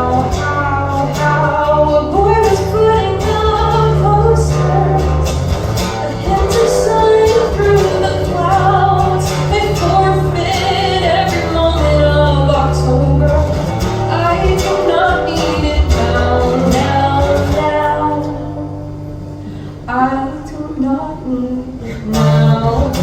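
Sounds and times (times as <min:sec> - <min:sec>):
person singing pop song: 0:00.0 - 0:18.8, 0:19.8 - 0:23.0.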